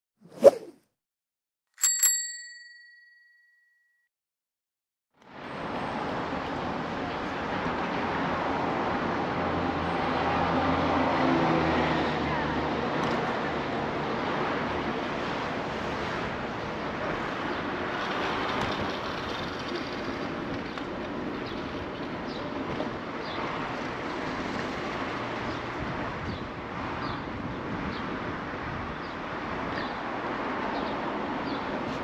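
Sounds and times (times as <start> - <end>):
rush of passing cars: 5.3 - 32.0.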